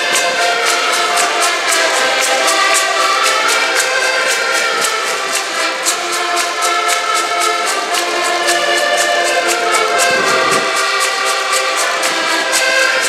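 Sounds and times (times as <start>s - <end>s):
button accordions playing chords: 0.0s - 13.0s.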